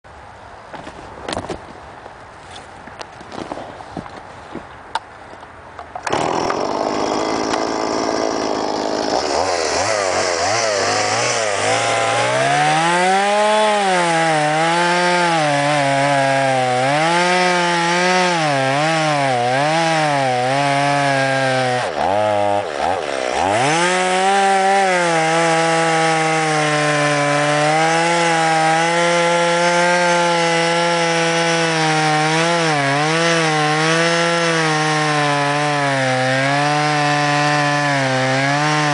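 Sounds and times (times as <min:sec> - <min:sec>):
chainsaw cutting logs: 0:05.9 - 0:38.9.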